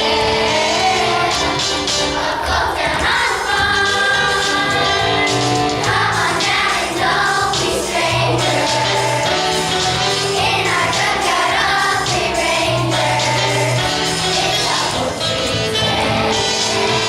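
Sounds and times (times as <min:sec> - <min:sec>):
children singing in chorus: 0:00.0 - 0:17.0
instrumental accompaniment: 0:00.0 - 0:17.0.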